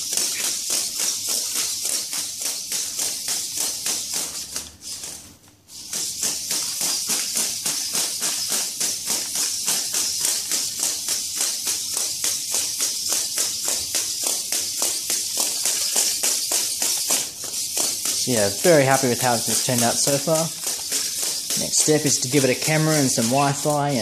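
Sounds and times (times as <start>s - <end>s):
robot legs tapping on concrete: 0.0s - 5.2s, 5.8s - 24.0s.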